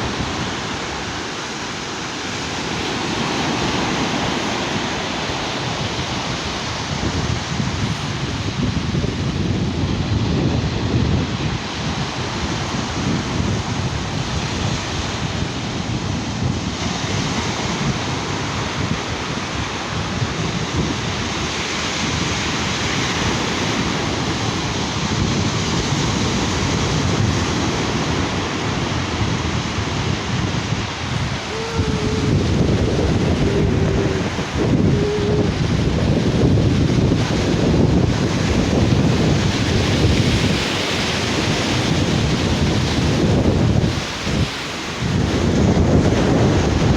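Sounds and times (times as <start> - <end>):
sea surf washing: 0.0 - 46.9
wind buffeting microphone: 0.0 - 46.9.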